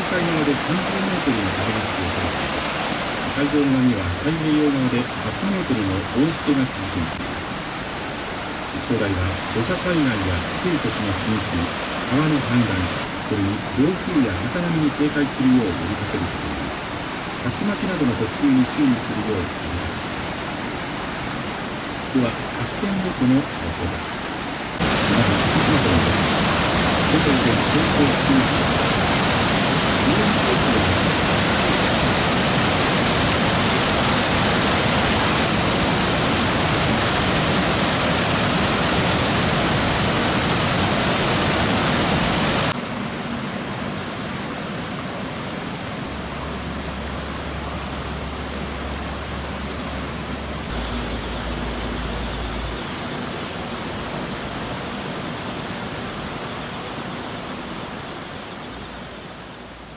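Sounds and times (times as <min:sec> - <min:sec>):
floodwater river roaring: 0:00.0 - 0:59.9.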